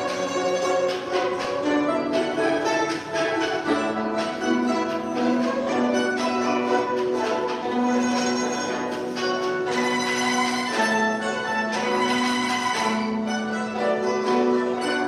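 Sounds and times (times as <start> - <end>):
plucked zither ensemble: 0.0 - 15.0.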